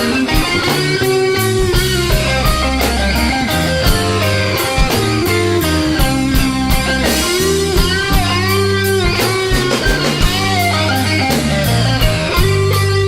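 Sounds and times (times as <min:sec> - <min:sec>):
bass line: 0:00.0 - 0:13.0
lead guitar bending notes: 0:00.0 - 0:13.0
steady drum beat: 0:00.0 - 0:13.0.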